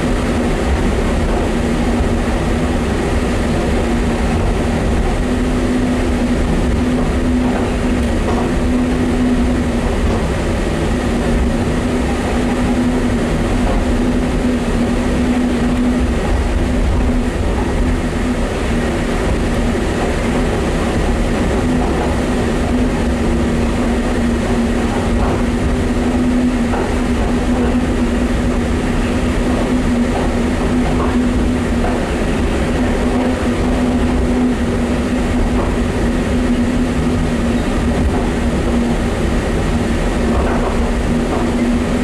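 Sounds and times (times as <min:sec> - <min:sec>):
people-mover car humming: 0:00.0 - 0:42.0.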